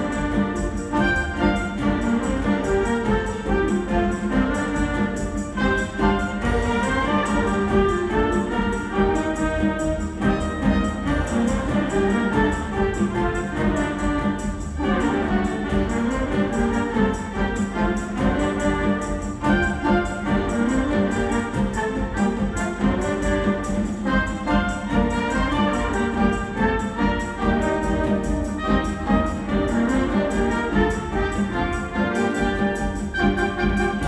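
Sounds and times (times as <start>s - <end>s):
orchestra playing: 0.0s - 34.0s.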